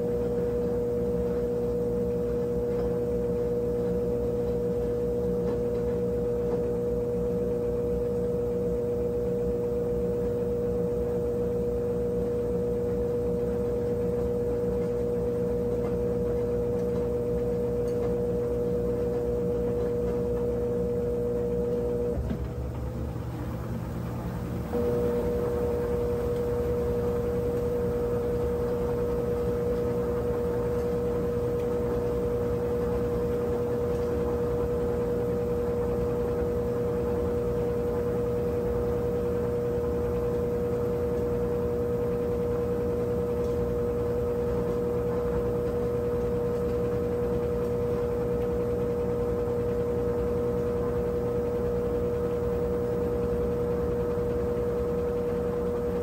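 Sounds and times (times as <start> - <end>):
washing machine humming: 0.0 - 56.0.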